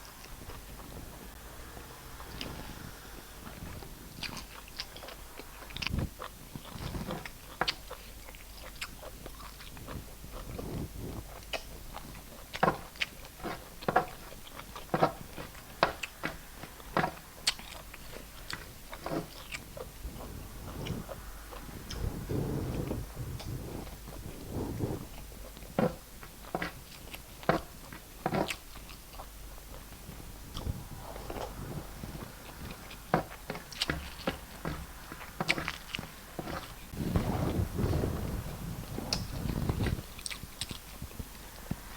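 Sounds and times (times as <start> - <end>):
chewing and biting: 3.5 - 41.9.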